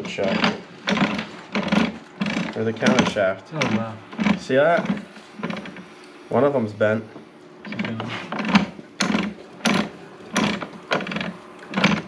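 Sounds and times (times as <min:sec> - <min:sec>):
gear teeth clicking and clattering: 0:00.0 - 0:05.8, 0:07.6 - 0:12.0.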